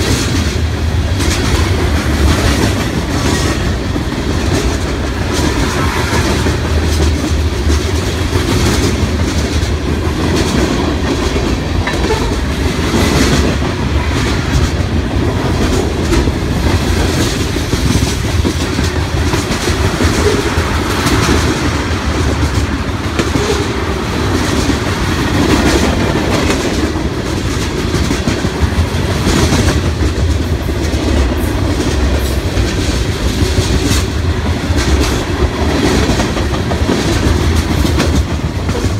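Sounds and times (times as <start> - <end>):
freight train rolling past: 0.0 - 38.9
wheels clicking over rail joints: 0.0 - 38.9.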